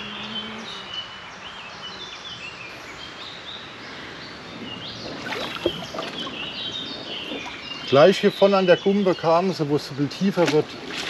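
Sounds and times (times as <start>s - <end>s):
background hiss: 0.0s - 11.0s
songbirds singing: 0.0s - 11.0s.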